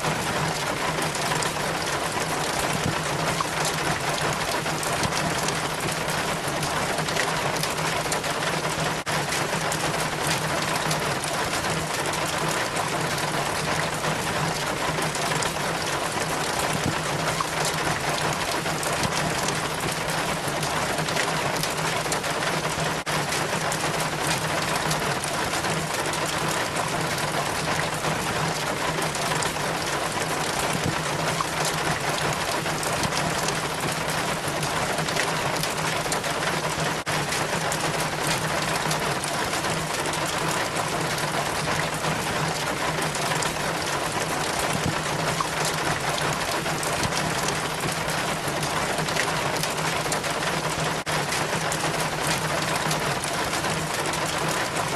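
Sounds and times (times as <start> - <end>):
rainwater trickling down rain chain: 0.0 - 54.9.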